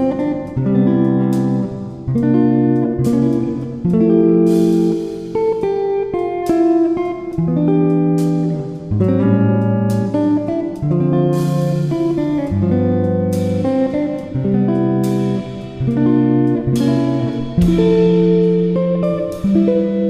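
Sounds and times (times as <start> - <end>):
plucked guitar melody: 0.0 - 20.0.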